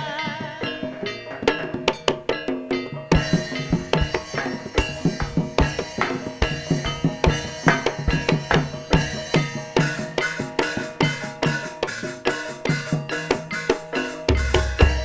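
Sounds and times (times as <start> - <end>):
hand drums beating: 0.0 - 15.0
ringing pitched percussion: 0.0 - 15.0.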